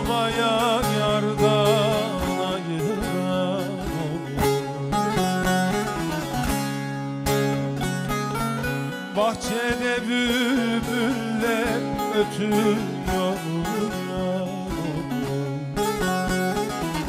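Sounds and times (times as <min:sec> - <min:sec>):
ornamented lute melody: 0:00.0 - 0:17.0
plucked lutes playing folk music: 0:00.0 - 0:17.0.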